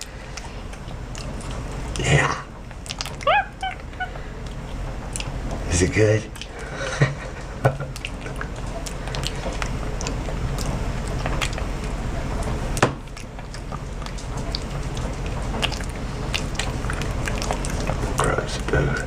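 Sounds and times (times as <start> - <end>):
wet clicks and smacks: 0.0 - 3.3, 4.4 - 5.6, 6.3 - 6.6, 7.7 - 18.4
monkey chewing food: 0.0 - 19.0.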